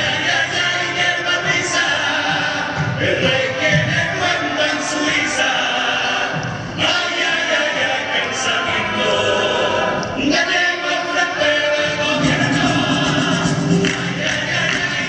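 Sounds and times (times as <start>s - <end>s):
male chorus singing in harmony: 0.0s - 15.0s.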